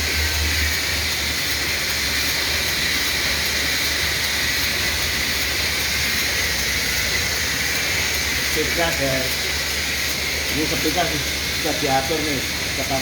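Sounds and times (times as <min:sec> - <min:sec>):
printing press running: 0:00.0 - 0:13.0.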